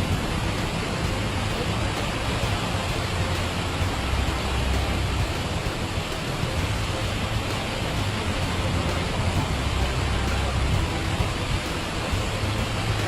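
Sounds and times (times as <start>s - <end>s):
low rumble: 0.0s - 13.0s
rushing hiss of downpour: 0.0s - 13.0s.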